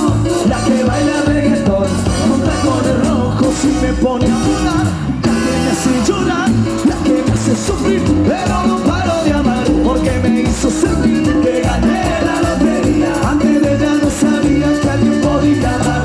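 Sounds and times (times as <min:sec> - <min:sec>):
dance music with steady beat: 0:00.0 - 0:16.0.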